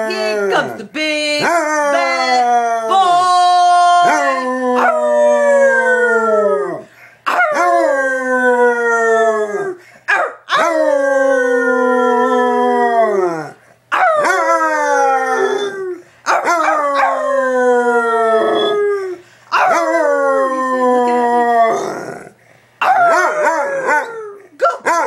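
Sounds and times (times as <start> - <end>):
dog howling: 1.4 - 9.8, 10.5 - 25.0.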